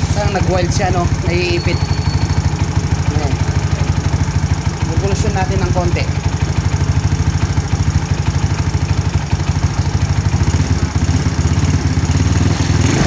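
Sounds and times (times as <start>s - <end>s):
scooter engine idling: 0.0s - 13.0s.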